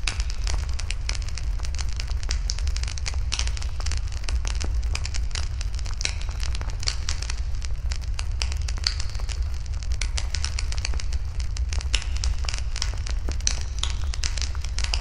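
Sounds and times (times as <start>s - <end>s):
burning wood popping: 0.0s - 15.0s
campfire crackling: 0.0s - 15.0s
steady low rumble: 0.0s - 15.0s.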